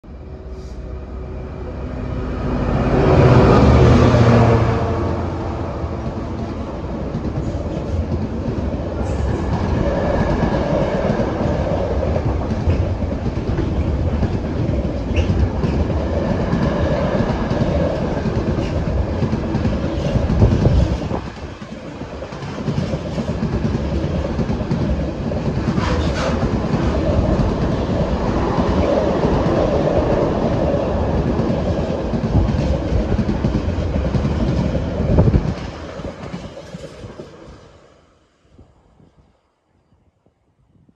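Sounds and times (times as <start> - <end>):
freight train wheels rumbling on rails: 0.0 - 38.0.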